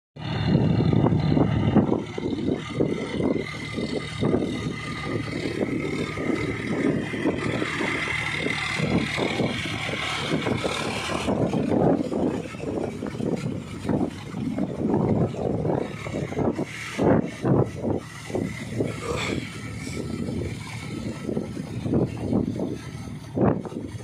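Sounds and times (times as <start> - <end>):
tractor diesel engine under load: 0.2 - 24.0.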